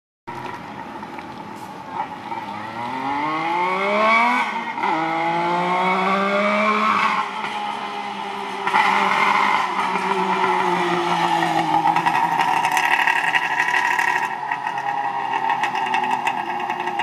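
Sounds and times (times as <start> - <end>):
motorcycle engine accelerating: 2.3 - 17.0.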